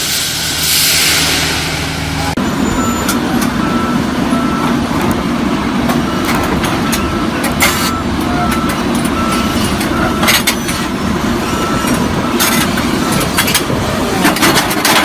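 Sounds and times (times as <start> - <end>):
diesel engine rumbling: 0.0 - 15.0
reversing alarm beeping: 2.0 - 14.4.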